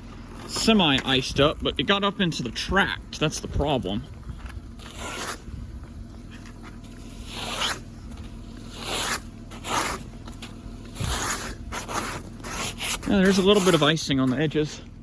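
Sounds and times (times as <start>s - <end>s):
icy snow crunching and scraping: 0.0s - 14.7s.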